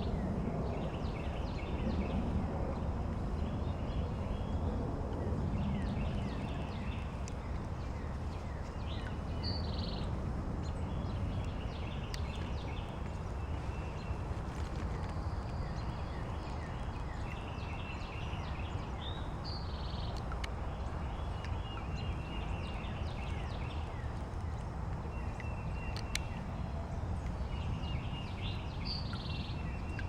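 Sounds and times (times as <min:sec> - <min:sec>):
songbirds chirping: 0:05.2 - 0:30.0.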